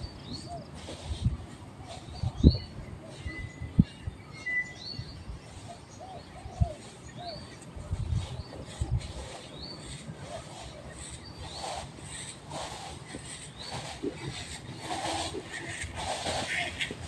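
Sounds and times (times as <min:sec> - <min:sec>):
lower bird calls and whistles: 0:00.0 - 0:17.0.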